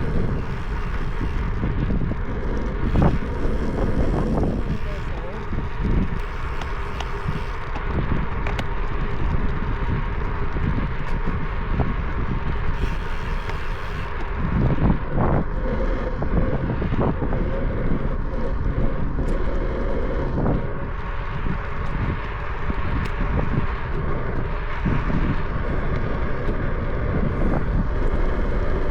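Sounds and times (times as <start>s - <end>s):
faint steady hum: 0.0s - 28.9s
wind rushing over microphone: 0.0s - 28.9s.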